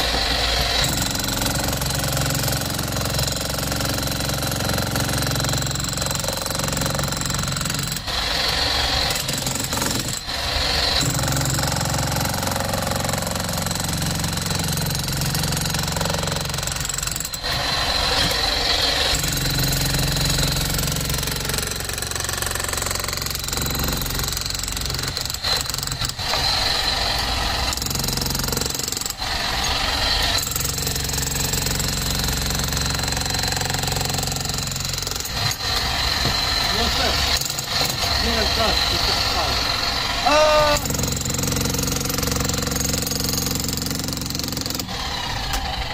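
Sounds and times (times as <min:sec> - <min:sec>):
demolition hammer breaking concrete: 0:00.0 - 0:45.9.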